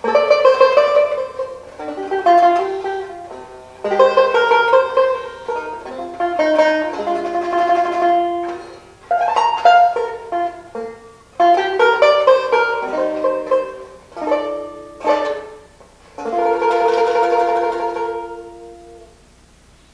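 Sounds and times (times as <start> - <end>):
tenor banjo playing solo: 0.0 - 19.2.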